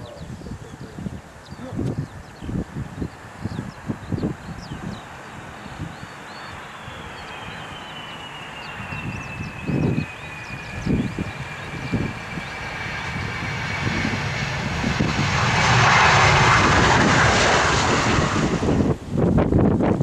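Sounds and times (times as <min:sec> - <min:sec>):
jet airliner passing: 0:00.0 - 0:20.0
wind buffeting microphone: 0:00.0 - 0:20.0.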